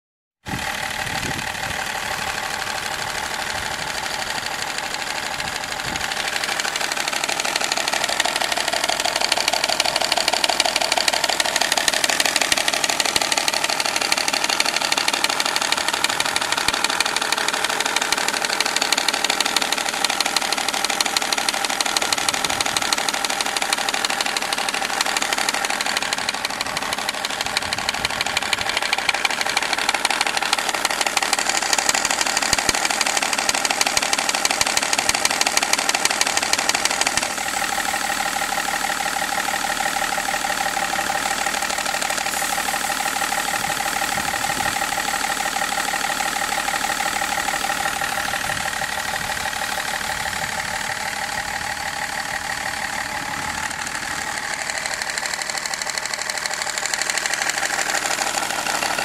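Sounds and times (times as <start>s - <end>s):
diesel engine idling: 0.4s - 59.0s
fast ticking rattle: 0.5s - 59.0s.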